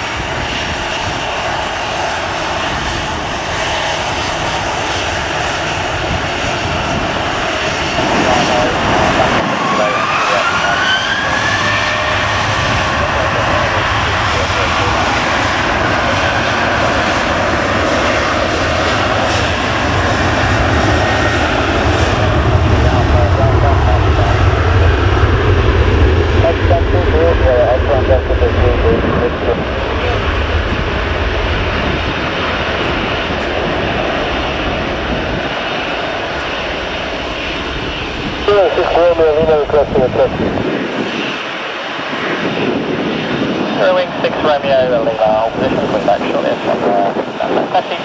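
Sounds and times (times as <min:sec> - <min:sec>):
jet engines roaring: 0:00.0 - 0:48.0
wind on microphone: 0:00.0 - 0:48.0.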